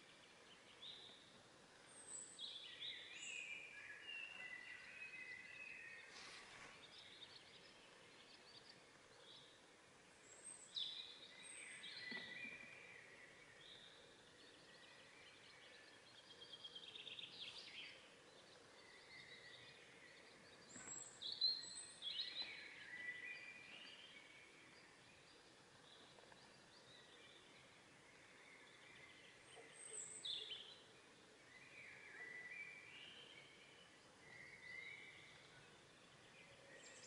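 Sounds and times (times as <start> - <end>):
quiet hiss: 0.0 - 37.0
songbirds chirping and trilling: 0.0 - 37.0.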